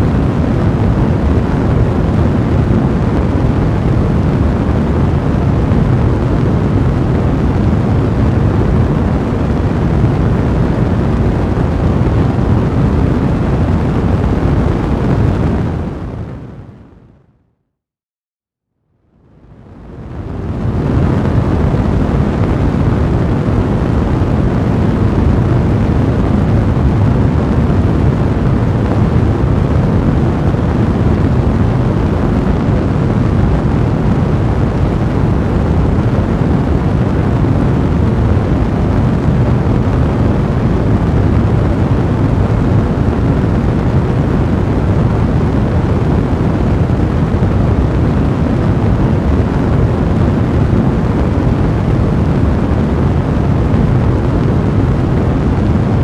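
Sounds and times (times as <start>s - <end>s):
large fire blazing: 0.0s - 16.7s, 19.6s - 56.0s.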